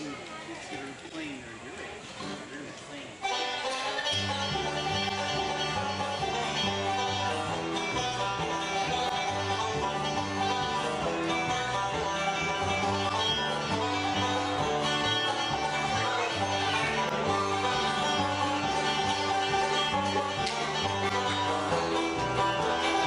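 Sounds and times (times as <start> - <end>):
guitar: 2.1 - 23.0
banjo picking: 3.2 - 23.0
walking double bass: 3.3 - 23.0.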